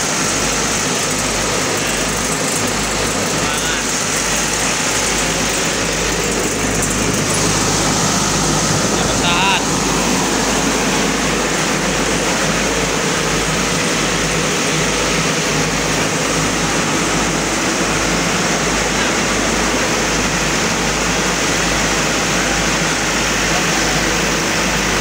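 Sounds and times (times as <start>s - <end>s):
pump engine running: 0.0s - 25.0s.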